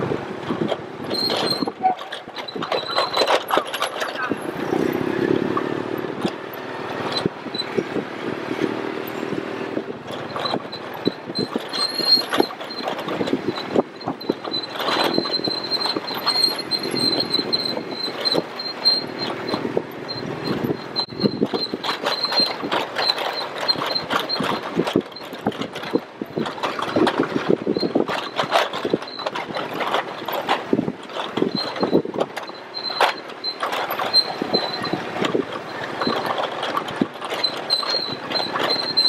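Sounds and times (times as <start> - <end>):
knocks and rattles over bumps: 0.0 - 39.0
quad engine running: 0.0 - 39.0.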